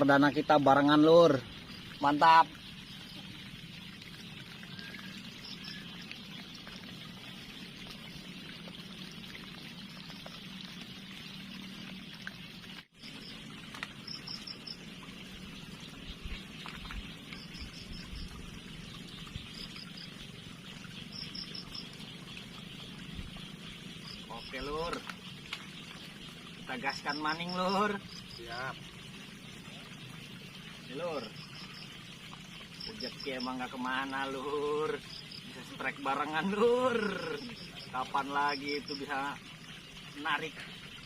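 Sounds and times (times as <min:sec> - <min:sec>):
river water trickling: 0:00.0 - 0:41.0.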